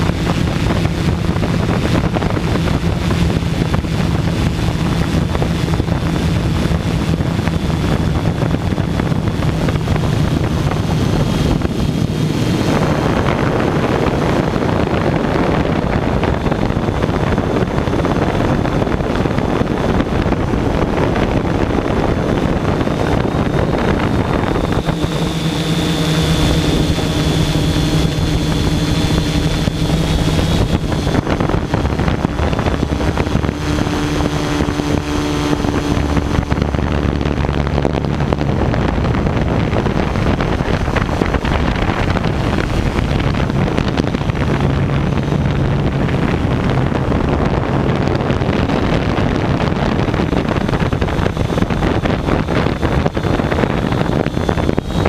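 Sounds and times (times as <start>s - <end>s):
drone motors and propellers buzzing: 0.0s - 55.0s
wind buffeting microphone: 0.0s - 55.0s.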